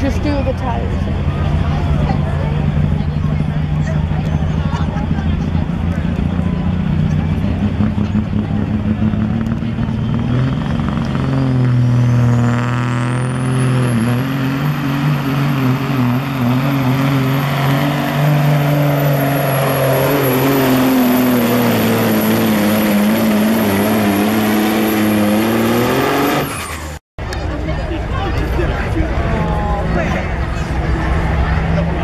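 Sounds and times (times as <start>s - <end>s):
diesel engine under full load: 0.0s - 32.0s.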